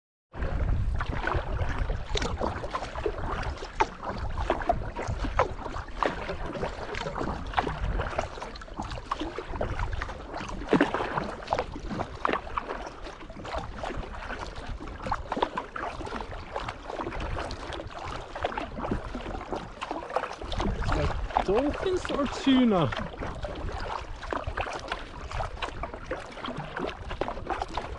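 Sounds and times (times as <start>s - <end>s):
water splashing against kayak hull: 0.4s - 27.9s
wind rumble on microphone: 0.4s - 27.9s.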